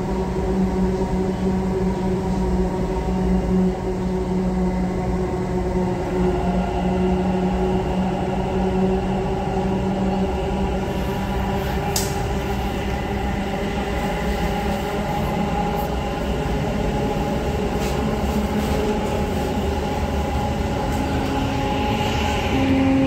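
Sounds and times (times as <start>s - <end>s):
humming tones of train equipment: 0.0s - 23.0s
train rumble: 0.0s - 23.0s.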